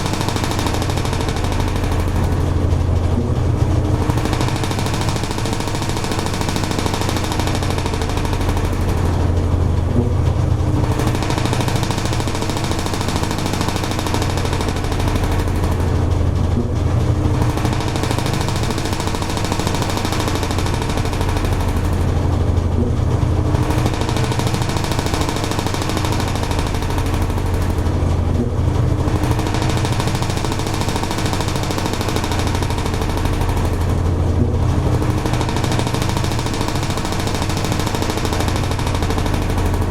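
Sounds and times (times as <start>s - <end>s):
washing machine churning: 0.0s - 39.9s
washing machine motor hum: 0.0s - 39.9s.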